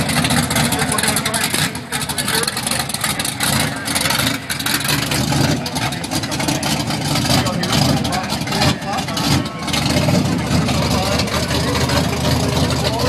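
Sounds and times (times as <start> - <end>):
loud engine choppy firing beat: 0.0 - 13.0.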